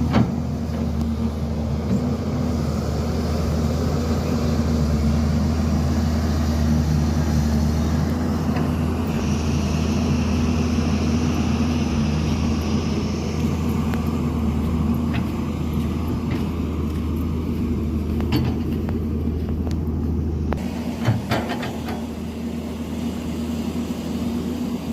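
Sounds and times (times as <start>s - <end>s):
heavy diesel engine drone: 0.0s - 24.9s.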